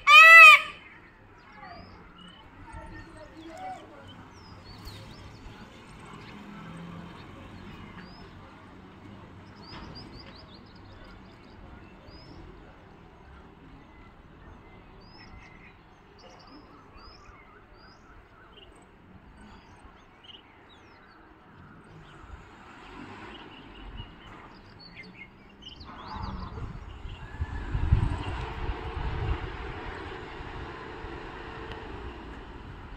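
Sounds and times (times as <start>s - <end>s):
outdoor background noise: 0.0s - 32.9s
small birds chirping: 0.0s - 32.9s.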